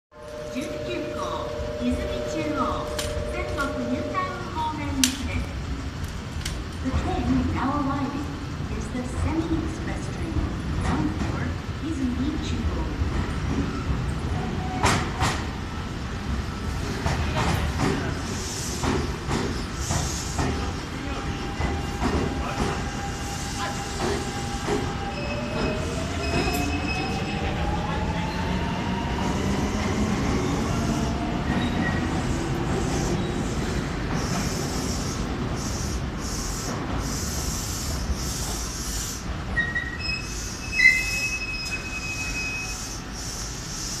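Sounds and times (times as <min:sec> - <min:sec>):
train rumbling into platform: 0:00.1 - 0:44.0.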